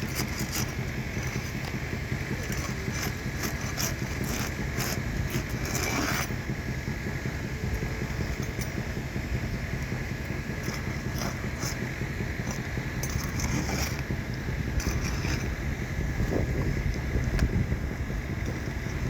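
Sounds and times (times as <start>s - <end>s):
scraping on roof shingles: 0.0s - 7.3s, 10.2s - 19.0s
low rumble: 0.0s - 19.0s.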